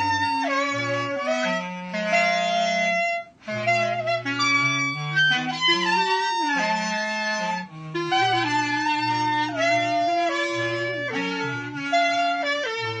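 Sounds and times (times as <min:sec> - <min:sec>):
clarinets playing slow piece: 0:00.0 - 0:13.0.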